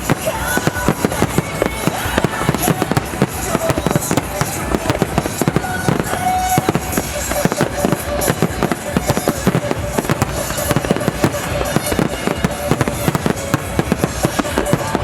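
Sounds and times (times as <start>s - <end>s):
fireworks bursting and crackling: 0.0s - 15.0s
music over loudspeakers: 0.0s - 15.0s.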